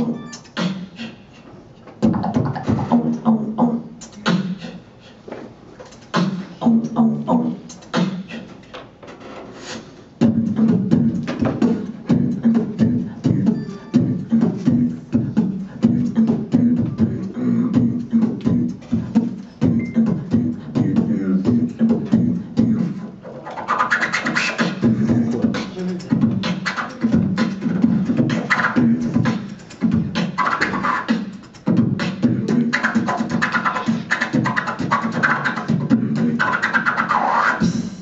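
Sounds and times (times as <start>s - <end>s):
human beatbox: 0.0s - 38.0s.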